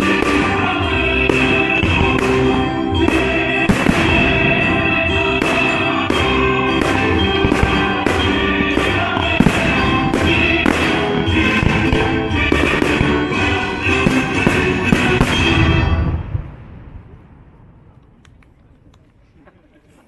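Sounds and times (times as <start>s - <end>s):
orchestral music: 0.0s - 16.8s
firework bangs: 0.0s - 17.9s.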